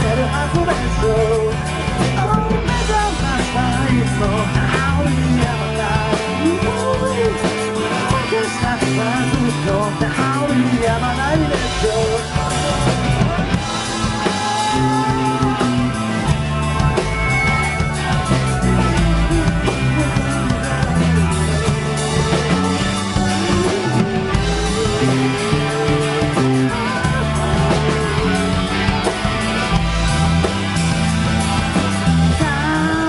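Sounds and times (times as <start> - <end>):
lead guitar bending notes: 0.0 - 33.0
rock band playing: 0.0 - 33.0.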